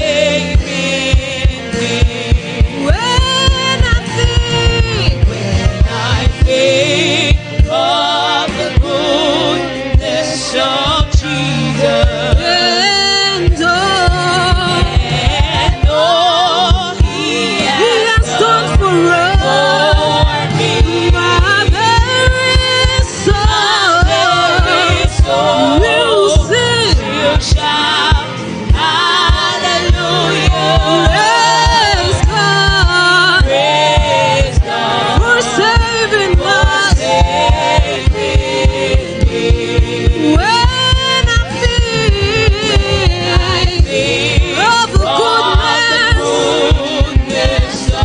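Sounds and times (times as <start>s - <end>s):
group singing gospel: 0.0s - 48.0s
live band with drum beat: 0.0s - 48.0s.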